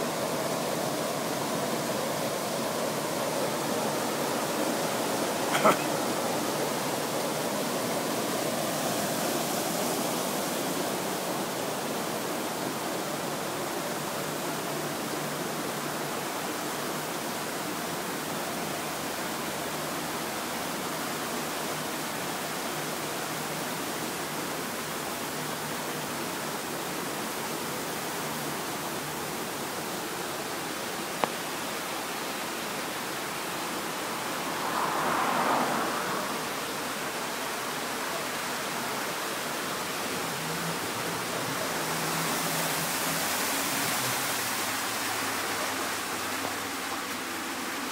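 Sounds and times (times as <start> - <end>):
water rushing into canal lock: 0.0 - 47.9.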